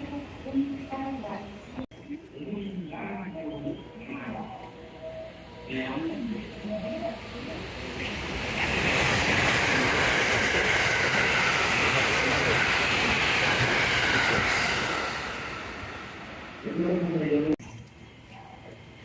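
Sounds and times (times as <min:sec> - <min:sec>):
train high whine: 0:00.0 - 0:17.5
train rushing rail noise: 0:00.0 - 0:17.5.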